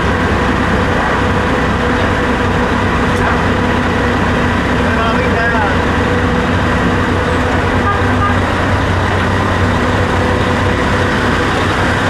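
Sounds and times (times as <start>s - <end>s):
motor running steadily: 0.0s - 12.0s.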